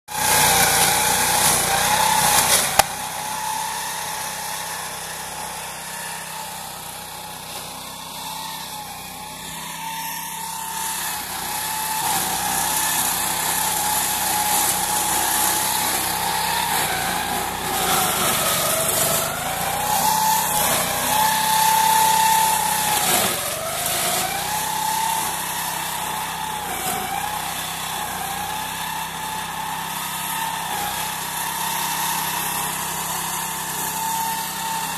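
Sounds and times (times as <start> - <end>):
mowing machine engine running: 0.1 - 34.9.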